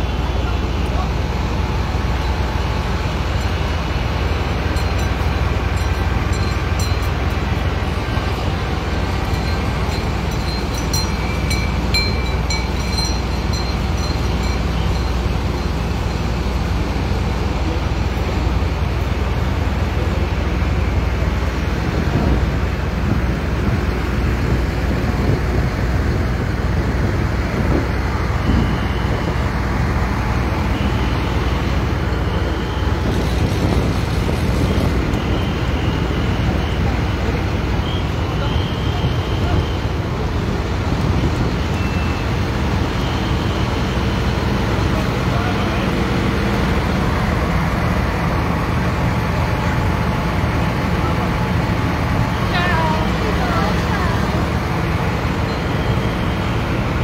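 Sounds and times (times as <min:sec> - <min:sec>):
tractor engines rumbling: 0:00.0 - 0:57.0.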